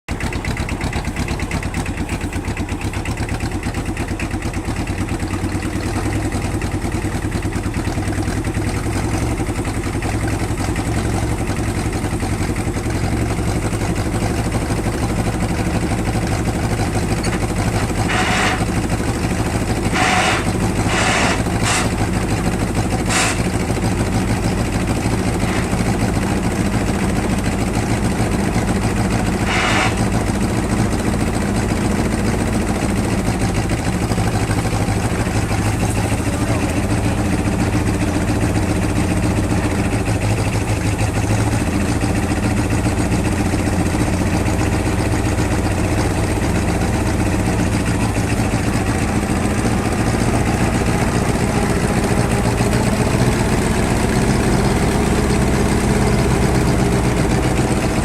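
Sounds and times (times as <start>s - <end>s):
diesel engine running: 0.1s - 58.0s.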